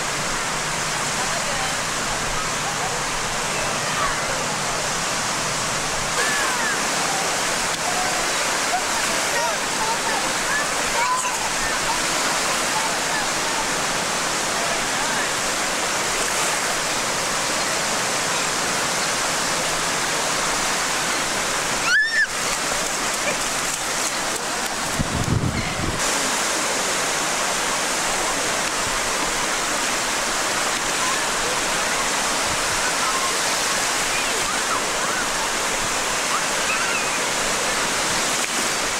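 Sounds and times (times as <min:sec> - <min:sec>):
ocean surf breaking: 0:00.0 - 0:38.9.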